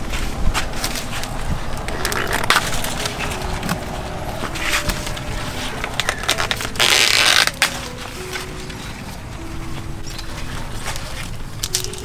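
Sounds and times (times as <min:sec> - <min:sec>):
leaves and husks rustling: 0:00.0 - 0:12.0.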